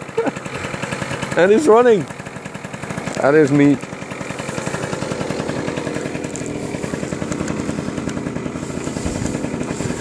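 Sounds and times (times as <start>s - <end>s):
moped engine idling: 0.0s - 10.0s.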